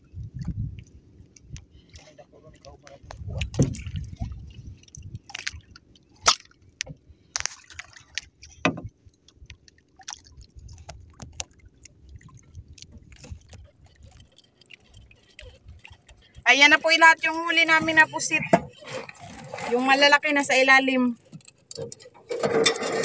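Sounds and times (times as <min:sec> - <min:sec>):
water lapping against boat: 0:00.0 - 0:23.0.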